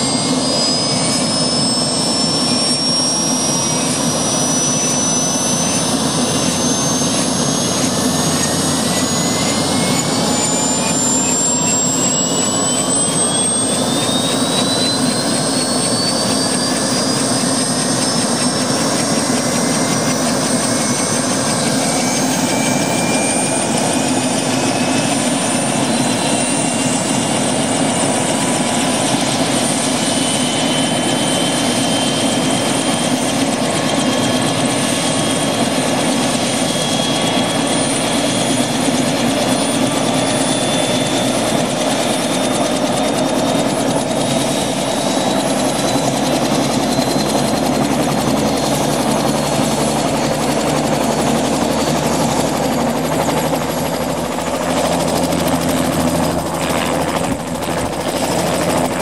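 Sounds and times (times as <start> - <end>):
helicopter rotor noise: 0.0 - 59.0
turbine whine rising in pitch: 0.0 - 59.0.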